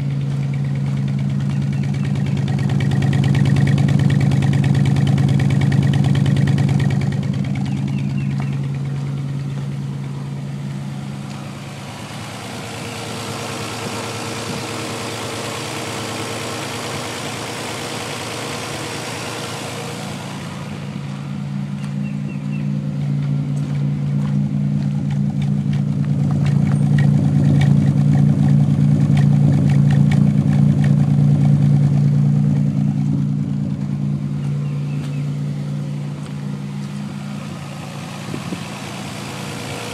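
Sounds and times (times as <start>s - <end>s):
car engine idling with misfire: 0.0s - 39.9s
exhaust popping: 0.0s - 39.9s.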